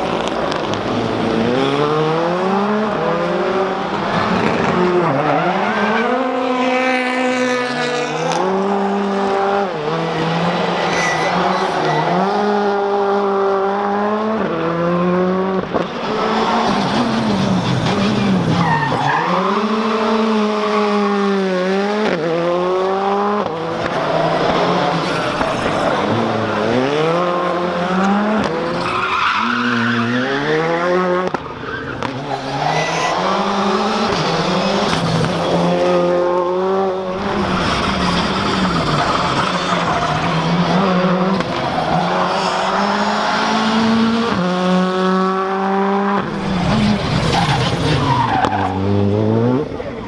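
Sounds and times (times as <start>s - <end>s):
rally car engine revving through gears: 0.0s - 49.8s.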